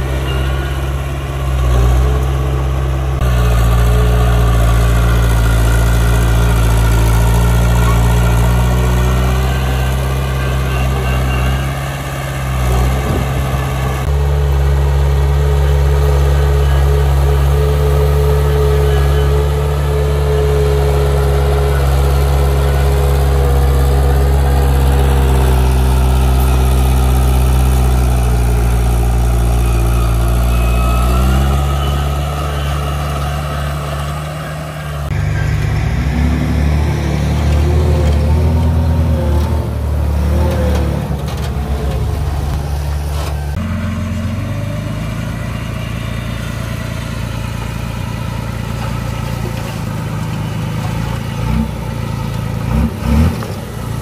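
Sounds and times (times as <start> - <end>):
diesel engine of heavy machinery: 0.0 - 54.0.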